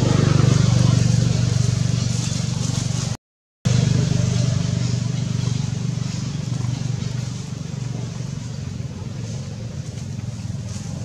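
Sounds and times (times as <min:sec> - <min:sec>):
engine pulsing hum: 0:00.0 - 0:11.0.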